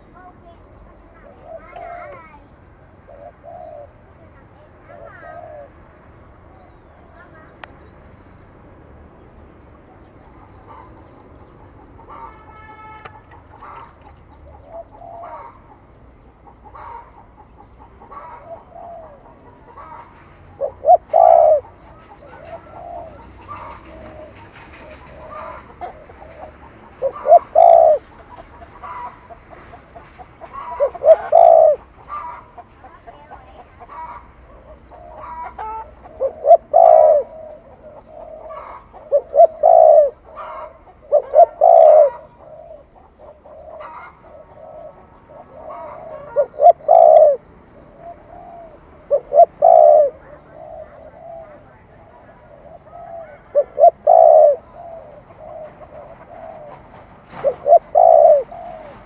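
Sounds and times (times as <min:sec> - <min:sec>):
dove cooing: 0:00.0 - 0:07.6, 0:09.8 - 0:59.0.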